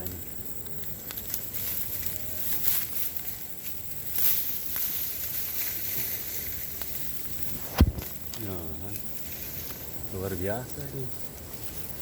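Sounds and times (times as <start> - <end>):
rustling of leaves and undergrowth: 0.0 - 12.0.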